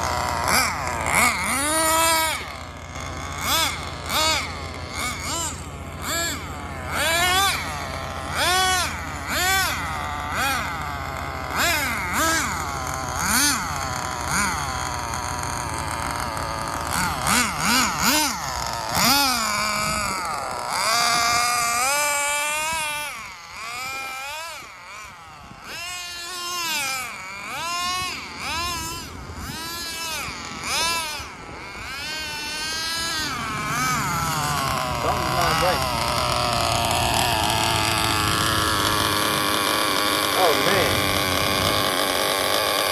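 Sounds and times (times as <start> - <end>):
rc car engine revving: 0.0 - 42.9.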